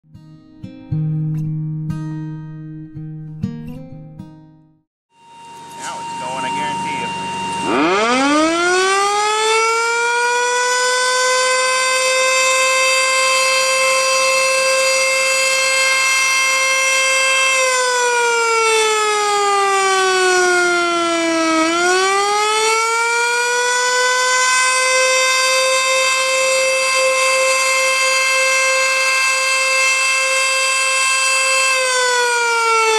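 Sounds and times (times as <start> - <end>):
tornado siren winding: 5.2 - 32.9.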